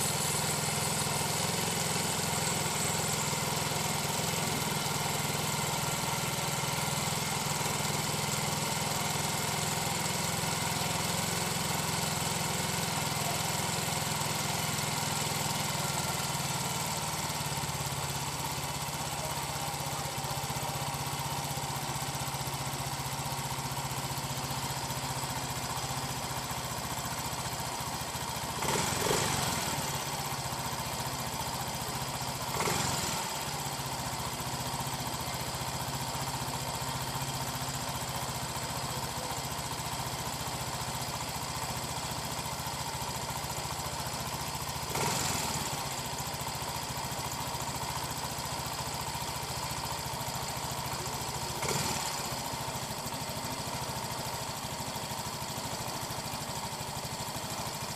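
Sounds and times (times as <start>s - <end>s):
scooter engine idling: 0.0s - 57.9s.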